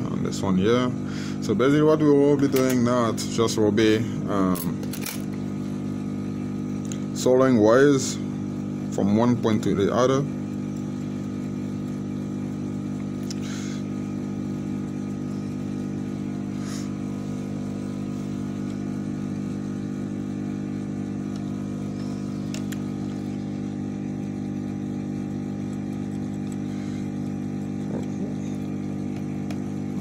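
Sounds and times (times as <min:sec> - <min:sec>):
small motor hum: 0:00.0 - 0:30.0.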